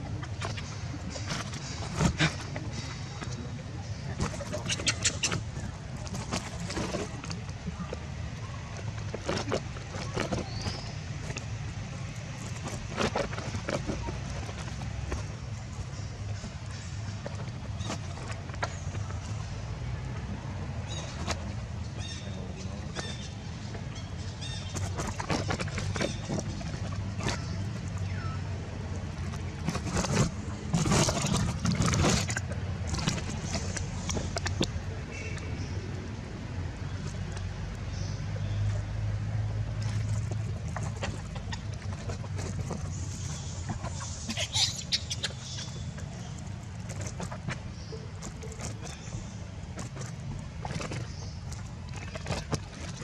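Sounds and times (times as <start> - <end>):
low motor hum: 0.0 - 53.0.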